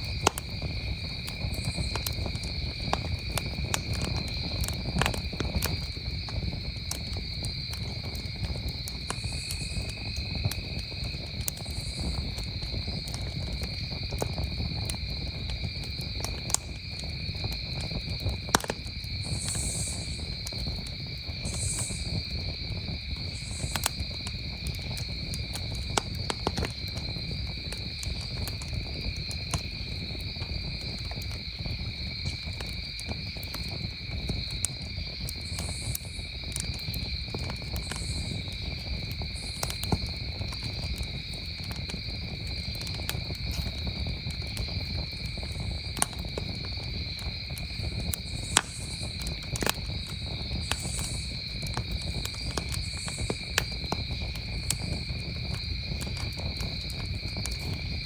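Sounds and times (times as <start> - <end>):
campfire crackling: 0.0 - 58.0
crickets trilling: 0.0 - 58.0.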